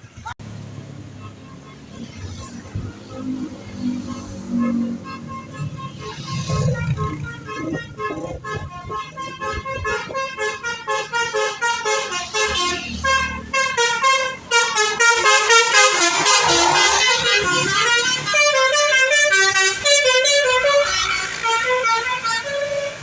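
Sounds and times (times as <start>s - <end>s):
bus horn playing melody: 1.2s - 23.0s.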